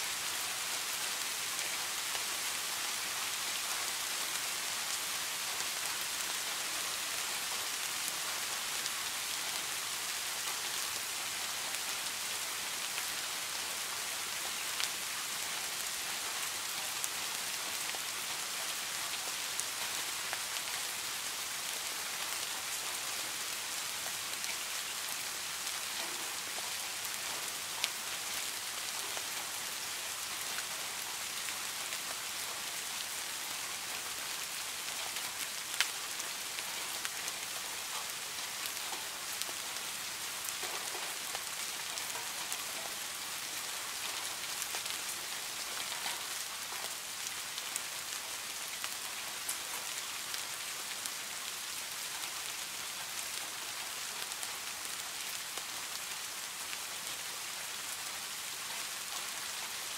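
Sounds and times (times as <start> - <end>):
rain falling on a pond: 0.0 - 59.9.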